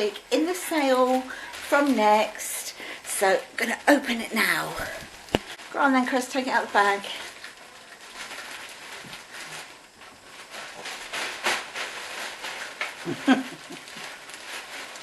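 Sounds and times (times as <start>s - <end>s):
plastic bag rustling: 0.0s - 15.0s.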